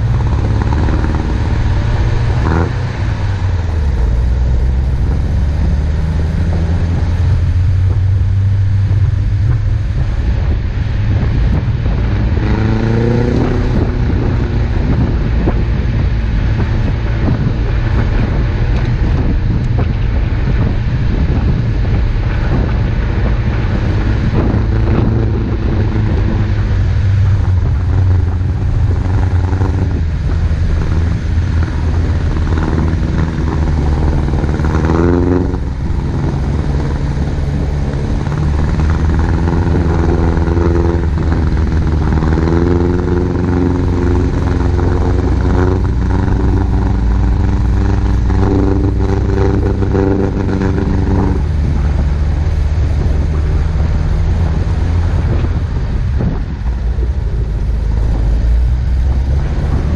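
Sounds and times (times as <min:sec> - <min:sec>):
car engine driving: 0:00.0 - 0:59.9
tyres rumbling on snow: 0:00.0 - 0:59.9.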